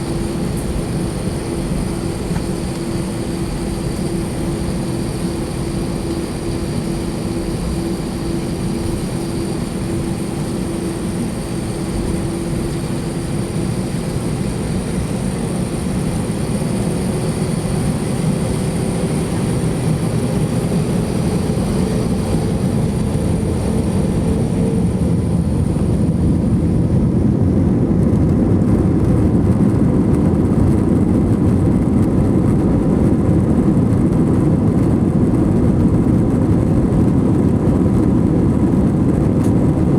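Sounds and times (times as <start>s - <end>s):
high engine whine: 0.0s - 39.9s
jet engines in passenger cabin: 0.0s - 39.9s.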